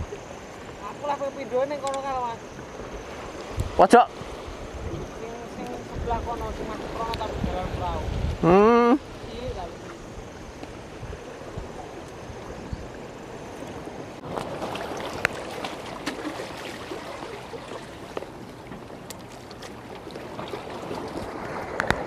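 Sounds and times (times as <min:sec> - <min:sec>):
waves lapping against rocks: 0:00.0 - 0:22.0.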